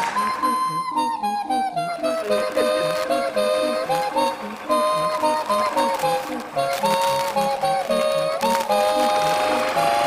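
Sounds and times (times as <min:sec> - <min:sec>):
flute-like melody: 0:00.0 - 0:10.0
pulsing bass beat: 0:00.0 - 0:10.0.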